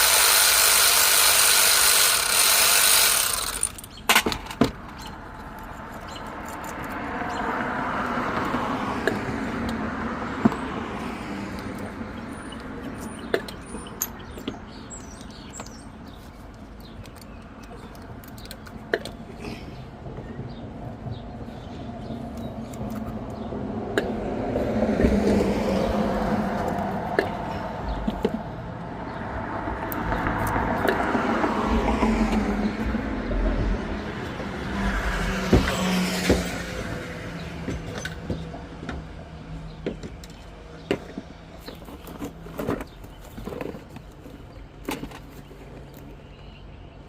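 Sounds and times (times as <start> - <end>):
vehicles passing by: 0.0 - 47.0.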